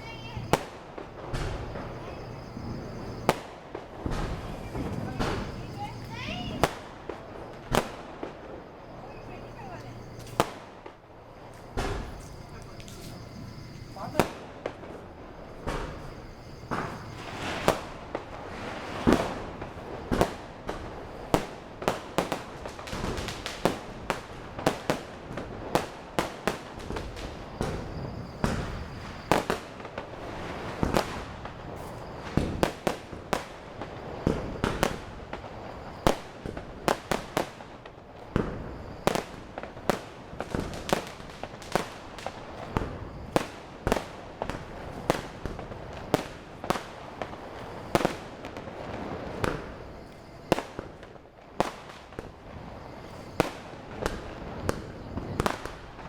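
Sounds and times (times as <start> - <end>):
firecracker bangs: 0.0 - 11.0, 11.6 - 56.0
fireworks crackling: 0.0 - 56.0.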